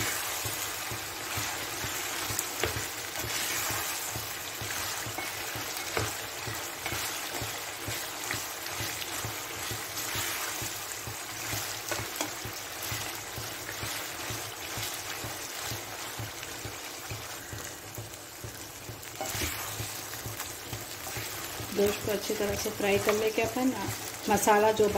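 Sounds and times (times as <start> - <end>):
spatula scraping a pan: 0.0 - 16.1, 19.0 - 24.2
meat sizzling in oil: 0.0 - 24.9.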